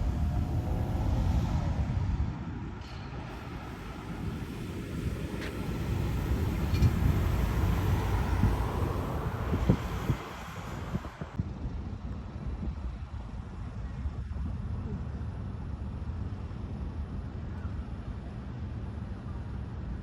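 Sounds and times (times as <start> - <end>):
wind buffeting microphone: 0.0 - 16.8
vehicle engine and tyre rumble: 0.0 - 20.0.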